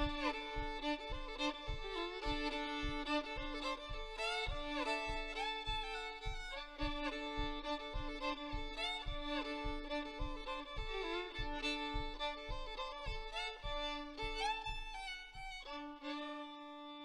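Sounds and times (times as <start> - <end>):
low thump keeping beat: 0.0 - 17.0
two fiddles playing: 0.0 - 17.0.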